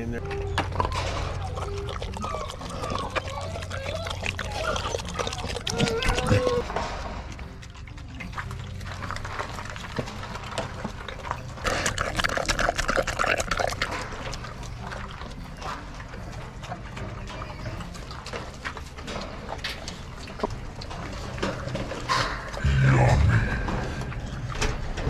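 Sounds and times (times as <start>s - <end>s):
dogs chewing and smacking: 0.0s - 22.6s.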